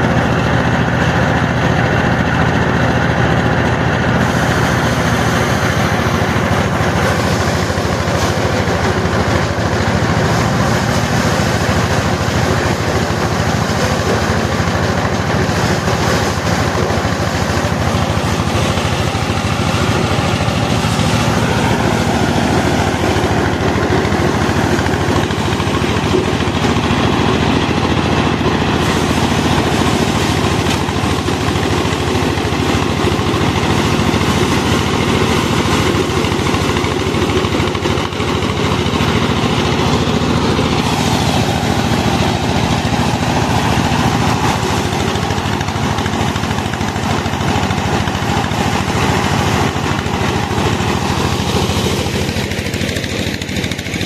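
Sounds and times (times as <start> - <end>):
grain rattling in thresher: 0.0 - 54.0
small engine humming: 0.0 - 54.0.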